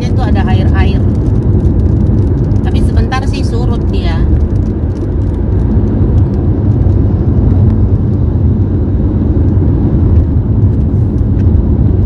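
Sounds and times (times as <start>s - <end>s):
car driving on wet road: 0.0s - 12.0s
rain ticking on windscreen: 0.0s - 12.0s.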